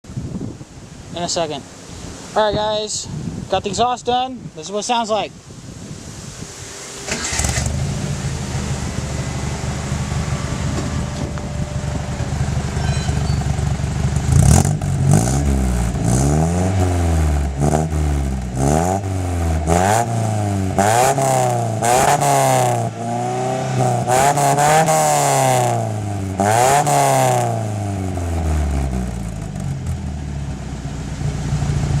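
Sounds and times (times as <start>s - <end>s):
car engine idling and revving: 5.7s - 32.0s.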